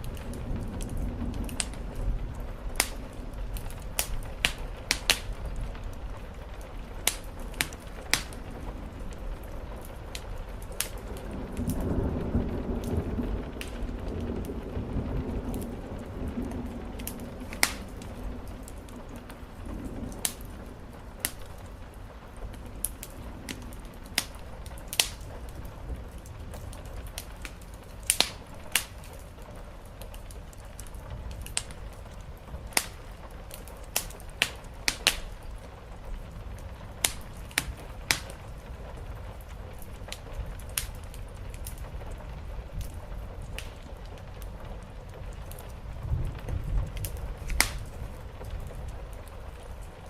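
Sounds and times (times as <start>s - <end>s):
low thunder rumble: 0.0s - 50.0s
rain on the roof: 0.0s - 50.0s
wood fire crackling and popping: 0.0s - 50.0s.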